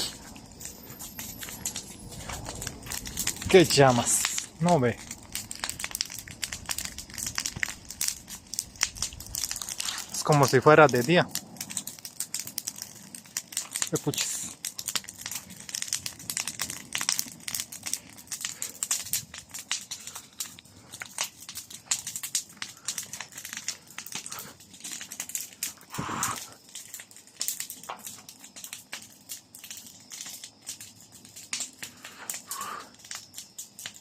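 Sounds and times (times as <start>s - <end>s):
bonfire crackling and popping: 0.0s - 34.0s.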